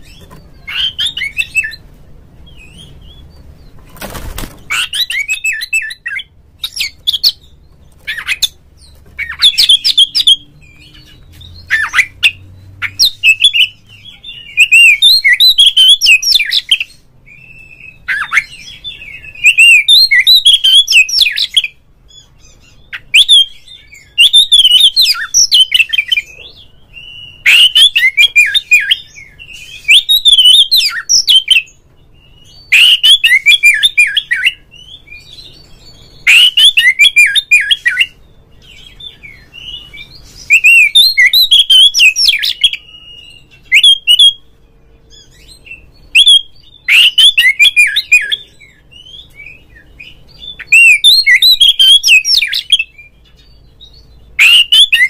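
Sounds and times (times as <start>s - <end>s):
bird whistled song phrases: 0.0s - 1.8s, 4.7s - 7.5s, 8.1s - 44.5s, 45.1s - 55.0s.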